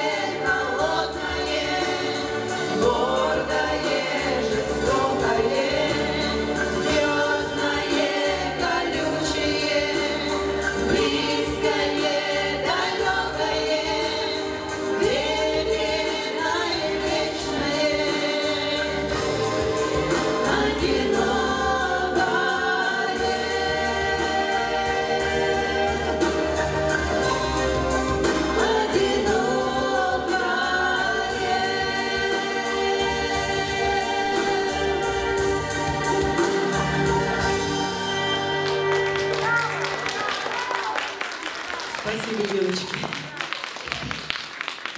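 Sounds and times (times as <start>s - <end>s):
female vocal quartet singing: 0.0s - 38.4s
instrumental accompaniment: 0.0s - 42.7s.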